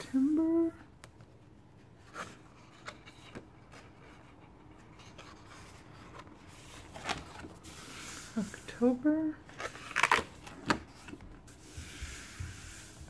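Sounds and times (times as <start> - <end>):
paper calendar rustling: 0.1 - 13.0.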